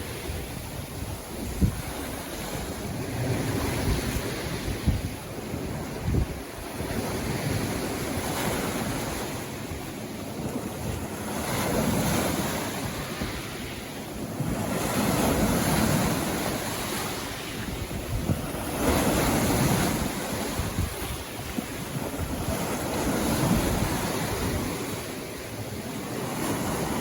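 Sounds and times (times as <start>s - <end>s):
sea waves breaking on a beach: 0.0s - 27.0s.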